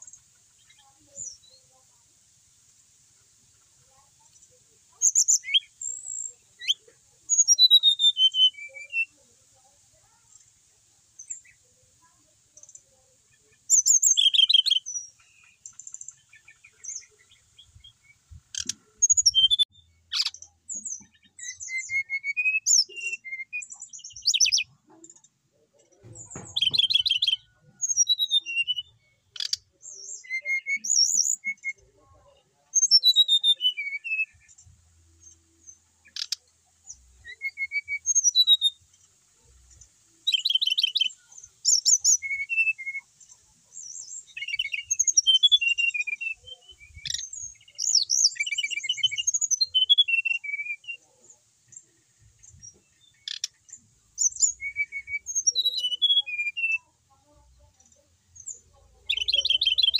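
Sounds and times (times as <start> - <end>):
bird singing warbled trills: 3.5 - 59.9.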